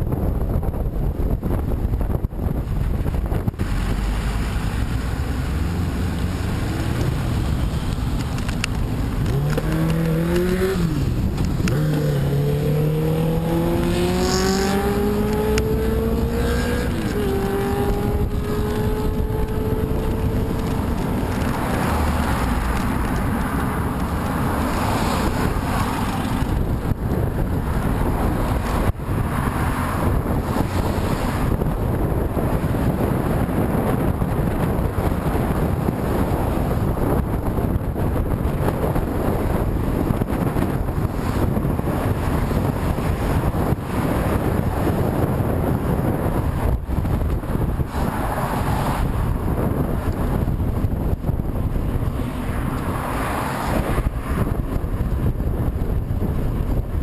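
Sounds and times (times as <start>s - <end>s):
wind buffeting the microphone: 0.0s - 57.0s
vehicle engine accelerating: 2.2s - 56.6s.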